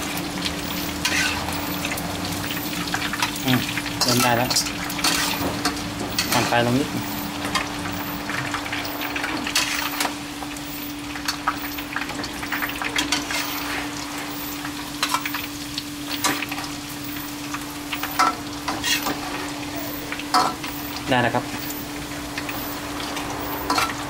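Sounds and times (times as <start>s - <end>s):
shallots sizzling in hot oil: 0.0s - 24.0s.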